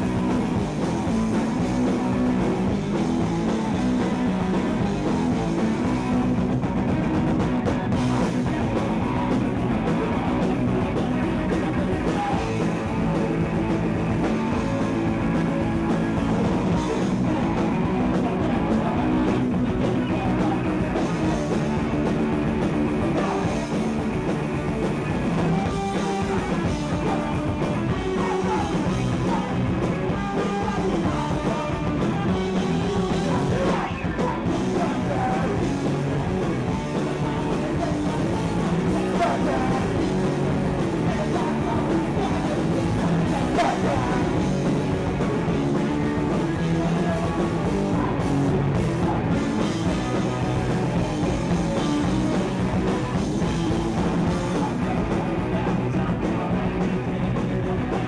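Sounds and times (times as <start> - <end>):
bass guitar: 0.0 - 58.0
distorted electric guitar: 0.0 - 58.0
drum kit: 0.0 - 58.0.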